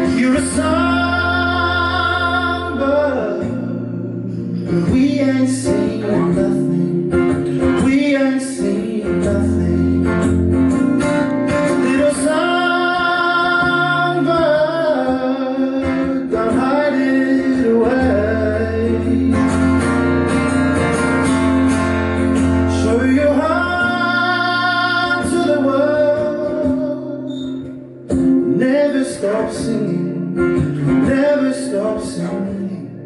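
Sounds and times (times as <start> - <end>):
acoustic guitar: 0.0 - 33.0.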